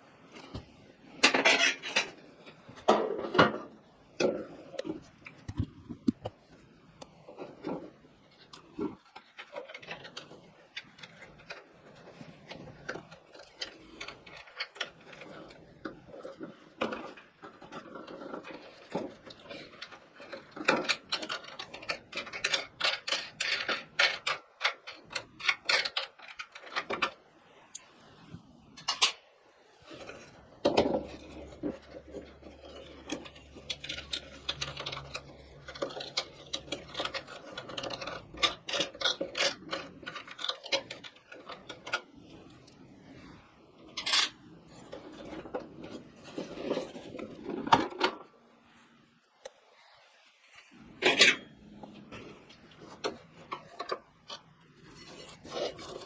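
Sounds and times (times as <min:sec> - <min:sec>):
clicks and knocks of handled parts: 0:00.2 - 0:28.0, 0:28.7 - 0:48.6, 0:50.6 - 0:56.0.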